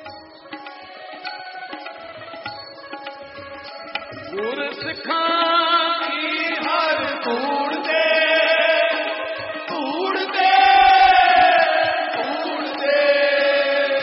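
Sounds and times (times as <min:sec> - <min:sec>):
harmonium: 0:00.0 - 0:14.0.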